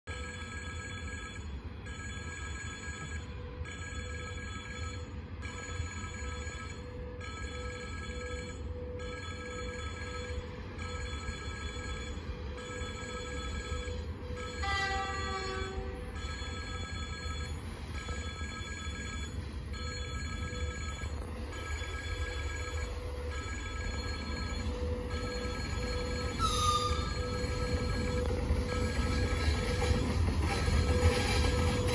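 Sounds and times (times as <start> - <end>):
railway warning signal ringing: 0.1 - 31.9.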